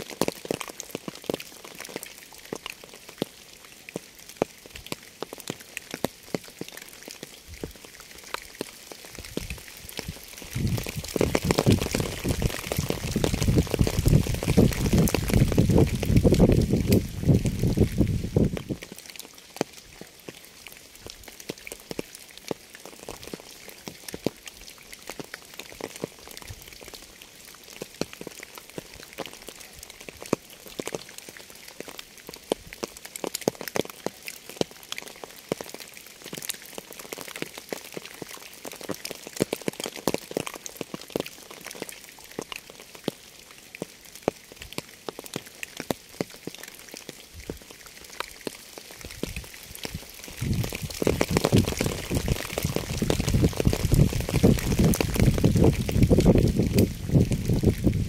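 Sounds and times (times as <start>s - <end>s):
raindrops tapping on a surface: 0.0s - 58.0s
steady rain hiss: 0.0s - 58.0s.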